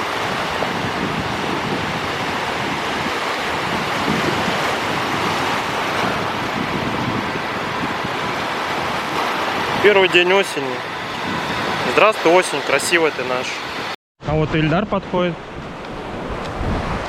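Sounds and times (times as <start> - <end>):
sea surf washing onto beach: 0.0 - 13.9, 15.0 - 17.0
wind gusting against microphone: 0.0 - 17.0.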